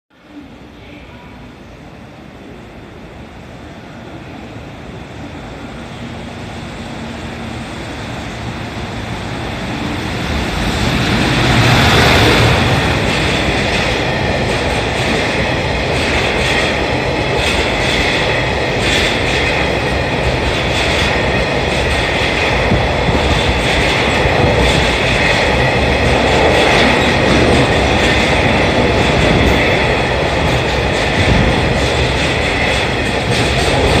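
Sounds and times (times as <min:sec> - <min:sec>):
freight train rumbling past: 0:00.2 - 0:34.0.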